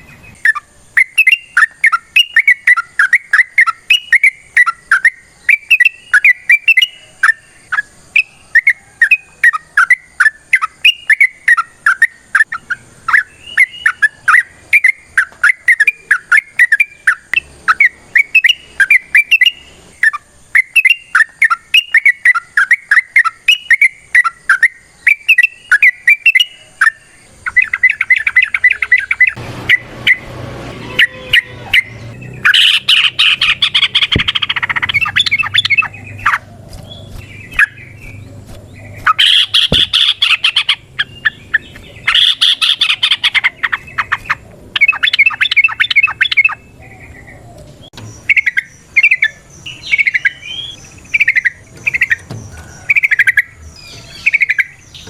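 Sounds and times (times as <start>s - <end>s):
bird song bubbling notes: 0.0s - 30.3s, 30.9s - 55.0s
bird chirps: 0.0s - 55.0s.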